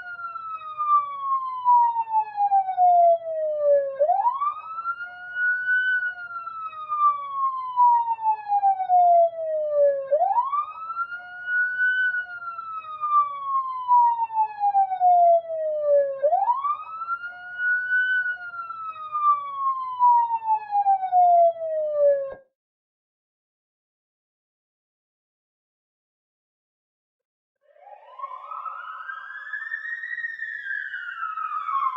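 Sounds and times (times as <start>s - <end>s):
police siren wailing: 0.0s - 22.4s, 27.6s - 31.9s.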